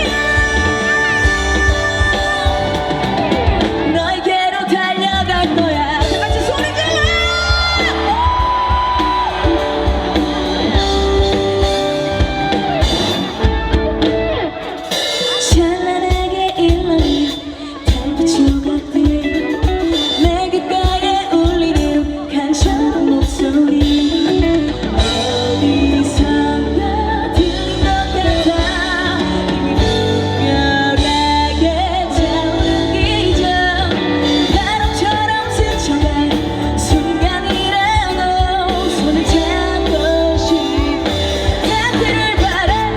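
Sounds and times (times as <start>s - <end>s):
woman singing: 0.0s - 12.3s, 15.1s - 42.9s
band with drums and guitar: 0.0s - 42.9s.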